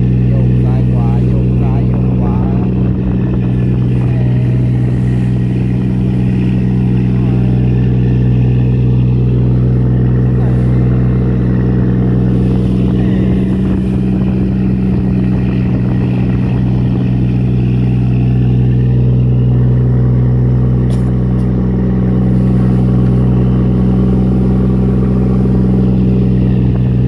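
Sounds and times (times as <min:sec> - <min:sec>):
boat engine running loudly: 0:00.0 - 0:27.0
water splashing against hull: 0:00.0 - 0:27.0.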